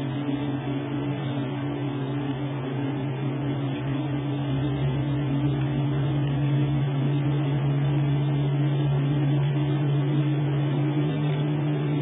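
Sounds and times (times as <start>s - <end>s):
car cabin drone: 0.0s - 12.0s.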